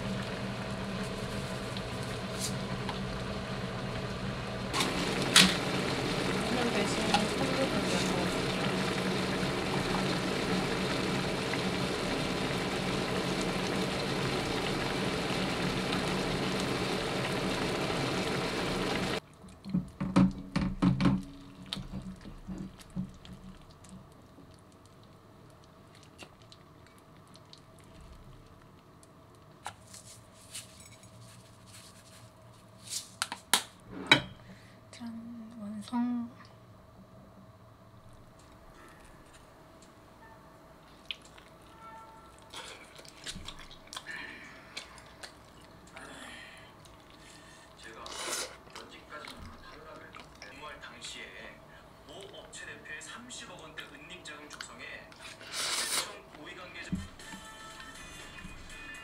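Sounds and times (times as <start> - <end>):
food bubbling and sizzling in pan: 0.0 - 29.6, 40.9 - 58.9.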